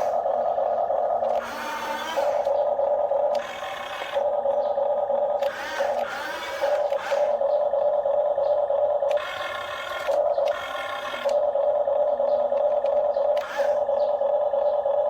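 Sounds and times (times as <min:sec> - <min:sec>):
electric motors whining: 0:00.0 - 0:15.0
harsh gear noise: 0:00.0 - 0:15.0.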